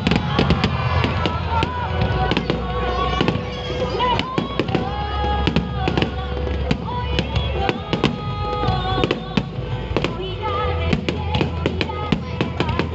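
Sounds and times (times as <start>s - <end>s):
fireworks bangs and crackles: 0.0s - 12.9s
music playing: 0.0s - 12.9s.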